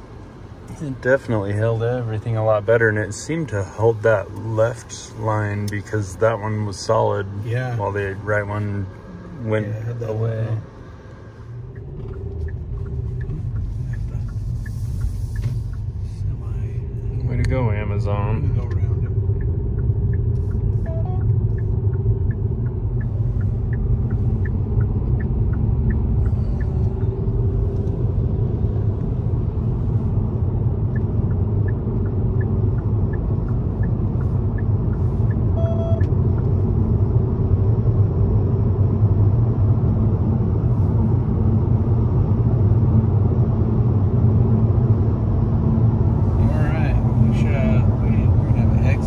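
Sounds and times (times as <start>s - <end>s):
engine hum: 0.0s - 49.0s
road and tyre noise: 0.0s - 49.0s
turn signal ticking: 0.0s - 49.0s.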